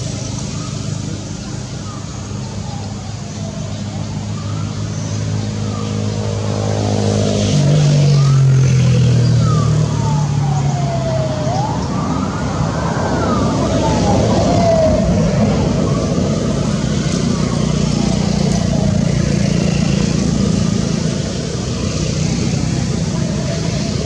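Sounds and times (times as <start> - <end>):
wailing siren: 0.0 - 24.0.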